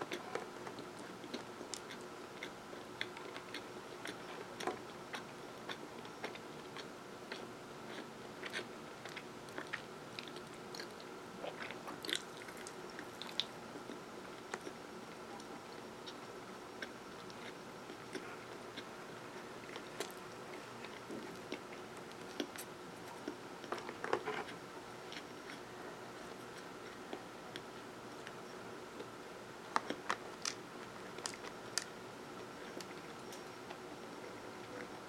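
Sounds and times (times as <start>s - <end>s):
chewing crunchy bread: 0.0s - 34.0s.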